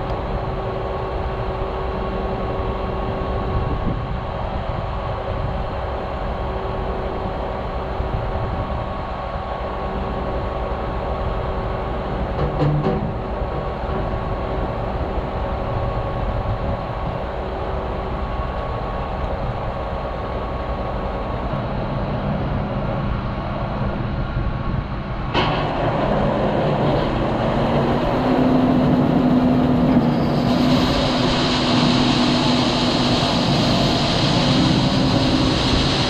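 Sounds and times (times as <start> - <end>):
farm vehicle engine running: 0.0 - 36.0.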